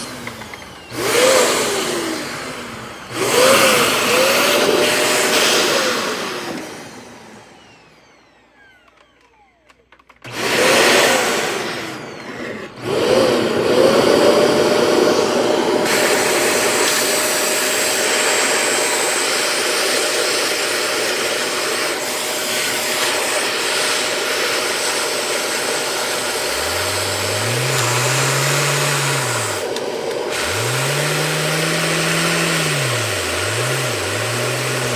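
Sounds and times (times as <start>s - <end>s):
lower motor rising and falling: 0.0s - 34.9s
vacuum cleaner motor whining: 0.0s - 34.9s.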